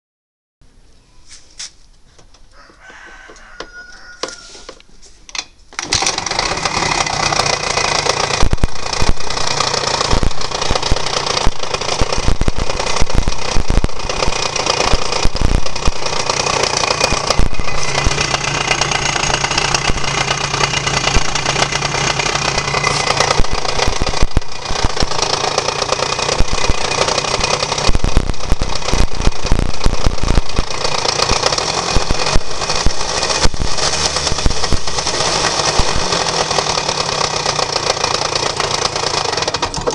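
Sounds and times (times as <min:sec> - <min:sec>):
scooter engine knocking: 0:05.8 - 0:39.9.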